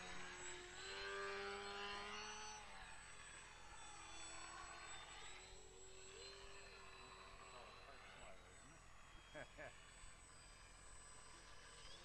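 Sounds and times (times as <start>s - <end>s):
model airplane motor and propeller: 0.0s - 12.0s.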